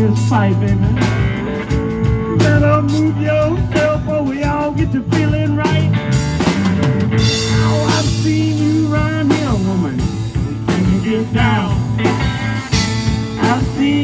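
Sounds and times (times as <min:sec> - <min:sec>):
blues-rock band playing: 0:00.0 - 0:14.0.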